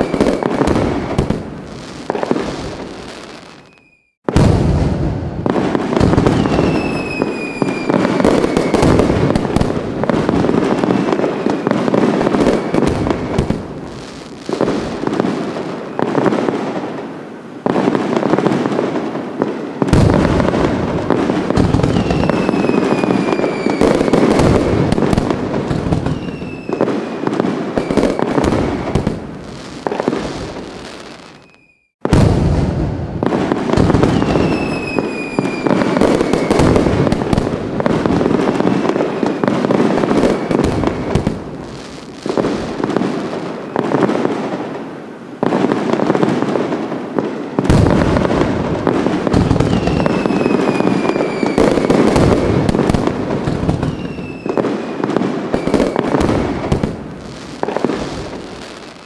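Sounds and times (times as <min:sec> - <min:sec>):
falling firework whistles: 0:00.0 - 0:09.7, 0:10.5 - 0:16.8, 0:19.4 - 0:44.1, 0:47.5 - 0:59.0
fireworks bangs and crackling: 0:00.0 - 0:59.0.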